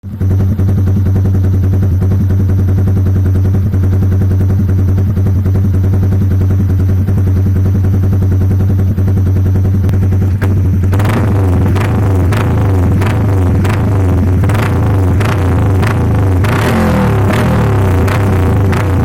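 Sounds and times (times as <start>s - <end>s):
motorcycle engine idling: 0.0s - 19.0s
rapid popping exhaust note: 0.0s - 19.0s.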